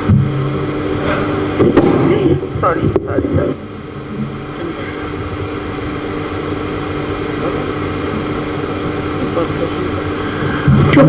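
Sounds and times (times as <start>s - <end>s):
hall background hum and hiss: 0.0s - 11.0s.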